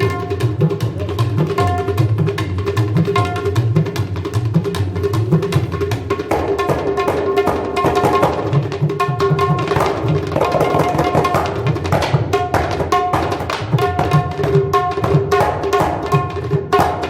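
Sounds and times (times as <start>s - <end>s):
tabla playing fast: 0.0s - 17.0s.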